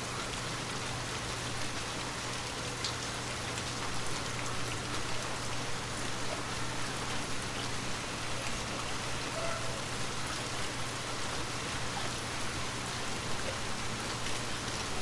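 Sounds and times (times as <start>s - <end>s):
light rain on a window: 0.0s - 15.0s.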